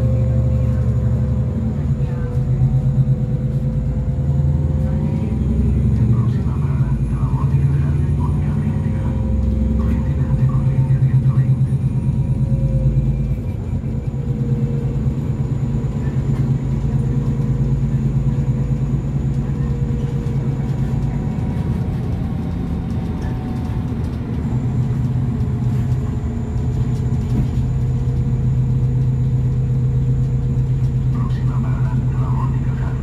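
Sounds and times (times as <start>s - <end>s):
bus engine rumble: 0.0s - 33.0s.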